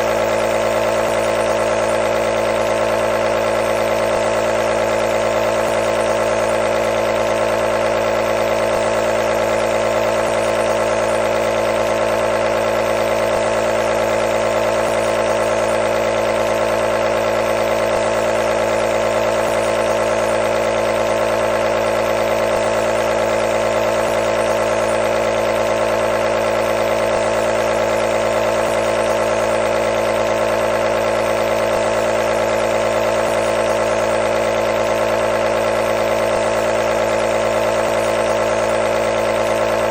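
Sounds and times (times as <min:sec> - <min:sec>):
nebulizer compressor humming: 0:00.0 - 0:39.9.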